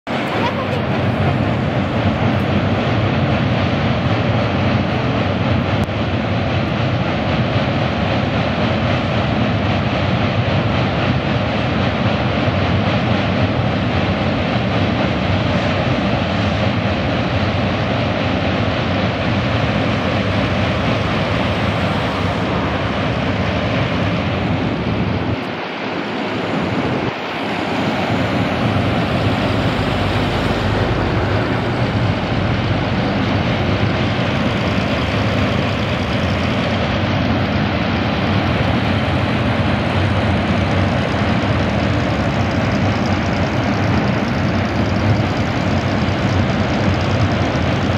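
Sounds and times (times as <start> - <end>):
train rumbling across bridge: 0.0 - 47.9.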